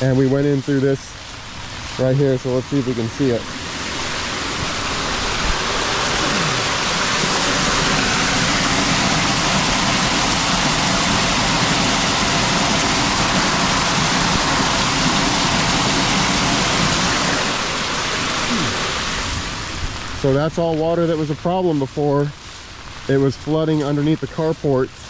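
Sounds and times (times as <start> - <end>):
water rushing out of a pipe: 0.0 - 25.0.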